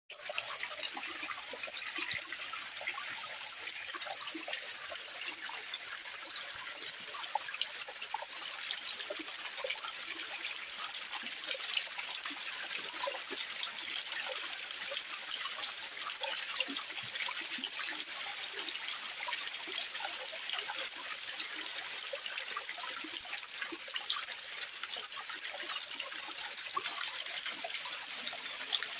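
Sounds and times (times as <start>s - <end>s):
small water plinks and splashes: 0.1s - 28.9s
water trickling: 0.1s - 28.9s.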